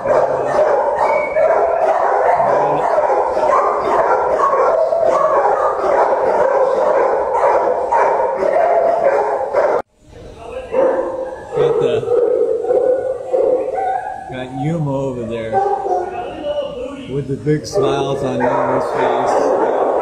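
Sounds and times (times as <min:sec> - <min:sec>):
many dogs barking: 0:00.0 - 0:09.9, 0:10.7 - 0:20.0.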